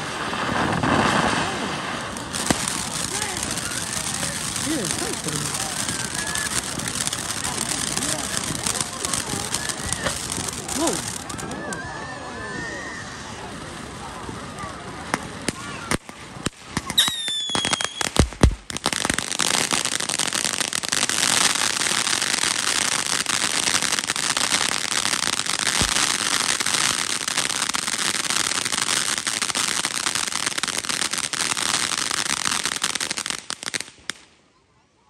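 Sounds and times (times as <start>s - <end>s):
firework bangs: 0.0s - 11.8s, 13.0s - 34.2s
fireworks crackling: 0.0s - 34.5s.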